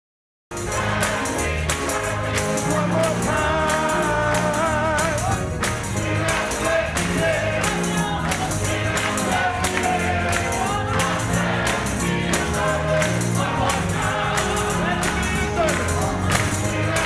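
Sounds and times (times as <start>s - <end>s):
tambourine beat: 0.5s - 17.0s
voices singing gospel music: 0.5s - 17.0s
bass: 0.6s - 17.0s.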